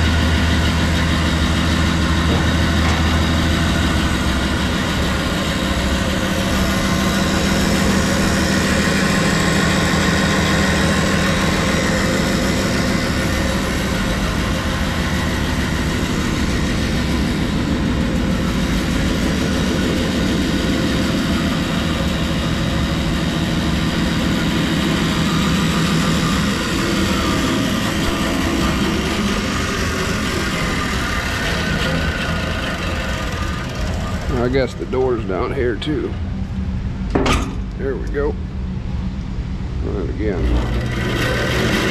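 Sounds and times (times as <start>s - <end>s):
band saw motor humming: 0.0s - 41.9s.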